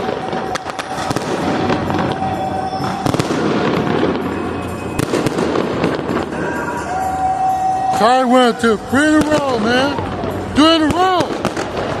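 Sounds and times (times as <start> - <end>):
background music: 0.0 - 12.0
fireworks crackling and banging: 0.0 - 12.0.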